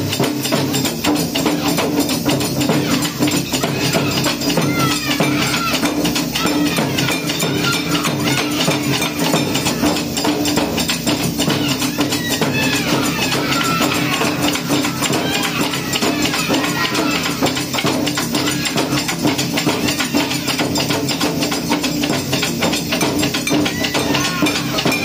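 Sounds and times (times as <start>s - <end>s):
ensemble of drums played fast: 0.0s - 25.0s.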